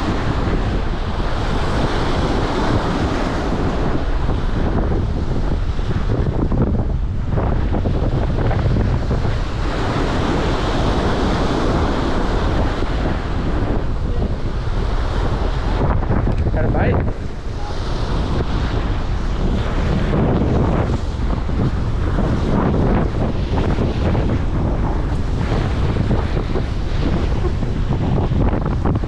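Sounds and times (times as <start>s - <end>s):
choppy water: 0.0s - 29.0s
waves splashing against boat: 0.0s - 29.0s
wind buffeting microphone: 0.0s - 29.0s.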